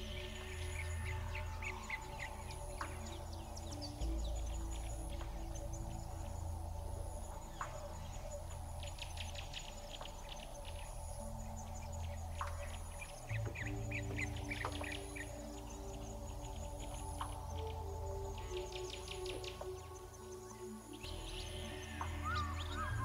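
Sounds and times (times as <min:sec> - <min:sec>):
birds chirping: 0:00.0 - 0:23.0
soft background music: 0:00.0 - 0:23.0.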